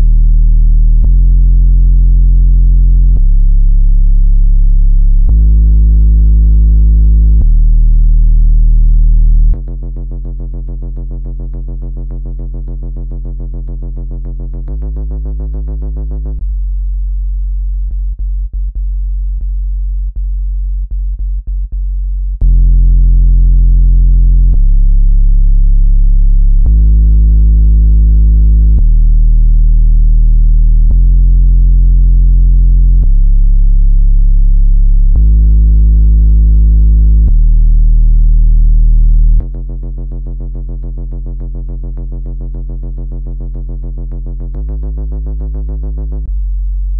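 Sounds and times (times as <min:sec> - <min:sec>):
low synthesized tones from speaker: 0:00.0 - 0:16.4, 0:22.4 - 0:46.9.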